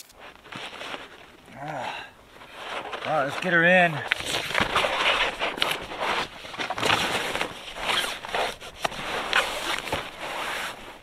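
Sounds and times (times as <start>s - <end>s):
sleeping pad rustling on nylon: 0.2s - 11.0s.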